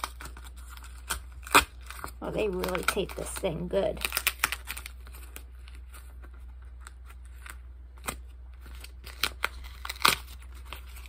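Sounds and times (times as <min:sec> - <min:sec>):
paper wrapping tearing and crinkling: 0:00.0 - 0:11.0.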